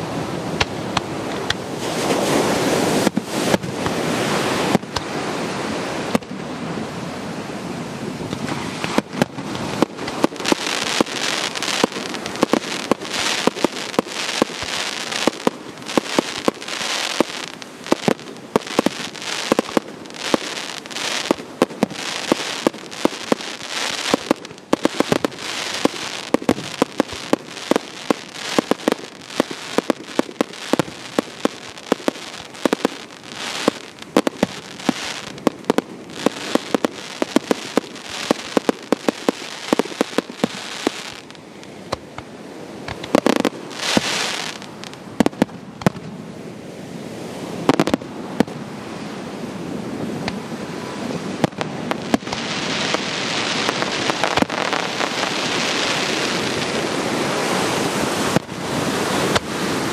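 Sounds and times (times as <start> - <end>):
fireworks bangs and crackles: 0.4 - 6.9, 8.1 - 46.2, 47.3 - 48.7, 50.0 - 59.9
fireworks rushing noise: 8.2 - 46.2, 47.4 - 48.6, 50.1 - 59.9.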